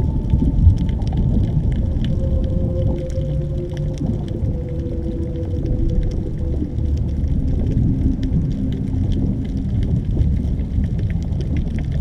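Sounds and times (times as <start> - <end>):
crackling clicks: 0.0 - 12.0
underwater low rumble: 0.0 - 12.0.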